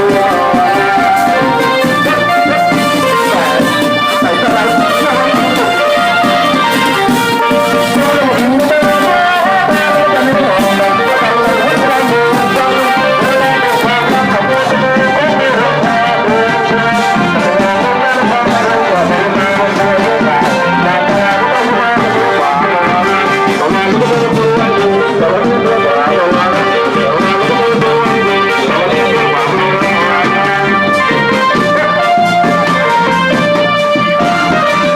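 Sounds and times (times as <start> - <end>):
brass instruments melody: 0.0 - 34.9
percussion strokes: 0.0 - 34.9.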